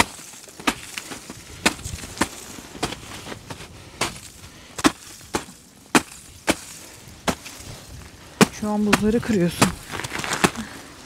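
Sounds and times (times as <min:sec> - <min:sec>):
boots cracking ice crust: 0:00.0 - 0:11.0.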